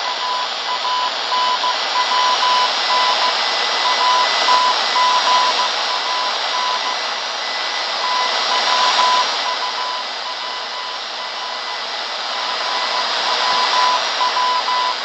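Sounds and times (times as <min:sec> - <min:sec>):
morse code tone: 0:00.0 - 0:07.0, 0:07.7 - 0:15.0
radio static hiss: 0:00.0 - 0:15.0.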